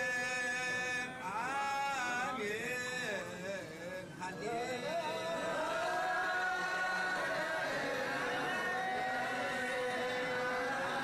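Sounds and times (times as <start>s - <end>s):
men chanting: 0.0s - 11.0s.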